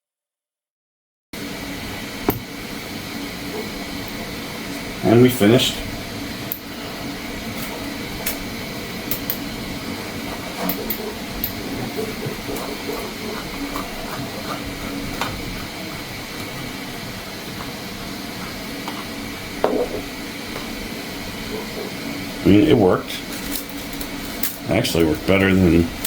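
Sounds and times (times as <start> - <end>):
background hum: 1.4 - 26.0.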